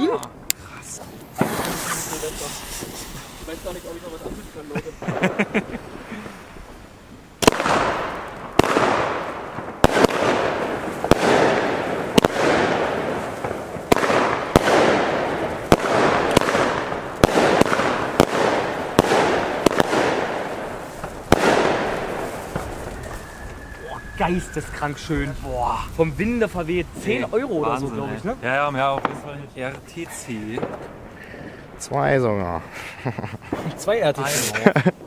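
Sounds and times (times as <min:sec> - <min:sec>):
hissing crackling firework tail: 0:00.0 - 0:35.0
firework bangs: 0:00.4 - 0:35.0.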